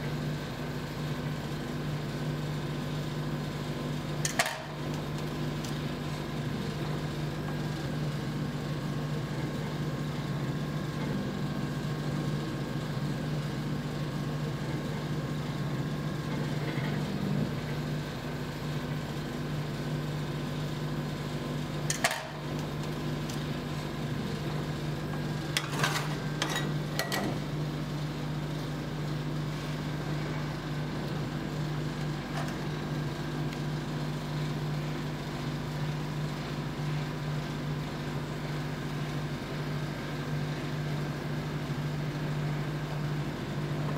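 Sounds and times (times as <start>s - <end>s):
refrigeration unit hum: 0.0s - 43.9s.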